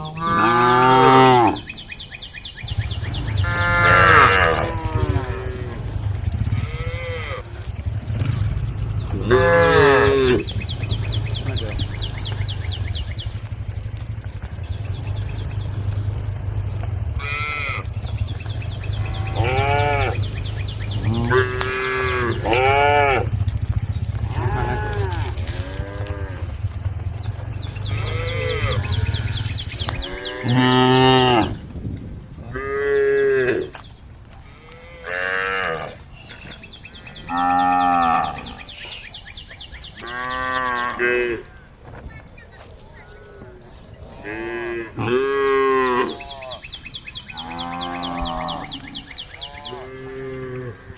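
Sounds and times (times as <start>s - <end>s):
cows mooing: 0.0s - 1.8s, 2.7s - 31.6s, 32.4s - 33.8s, 34.4s - 38.8s, 40.0s - 41.6s, 43.0s - 46.7s, 47.3s - 50.9s.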